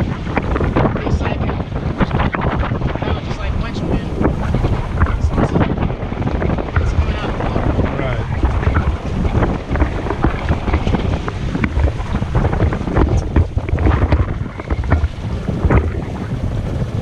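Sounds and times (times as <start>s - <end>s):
water splashing around boat: 0.0s - 17.0s
wind buffeting microphone: 0.0s - 17.0s.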